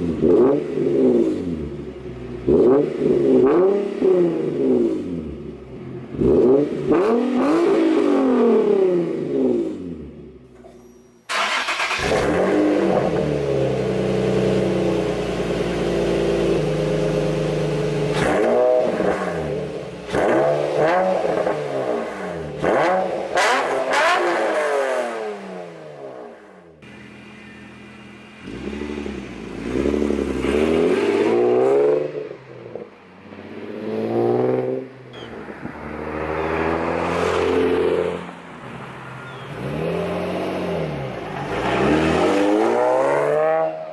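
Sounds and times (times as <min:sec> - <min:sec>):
car engine revving: 0:00.0 - 0:10.6, 0:11.3 - 0:43.9.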